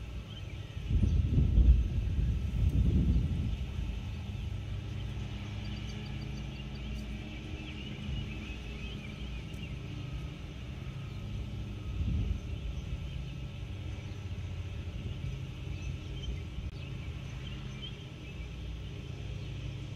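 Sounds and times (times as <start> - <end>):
birds chirping faintly: 0.0 - 19.9
distant freight train rumble: 0.0 - 19.9.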